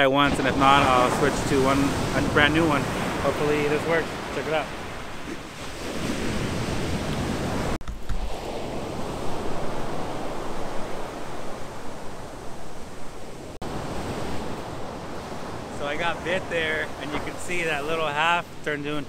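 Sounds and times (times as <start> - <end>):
ocean waves washing up beach: 0.0 - 19.0.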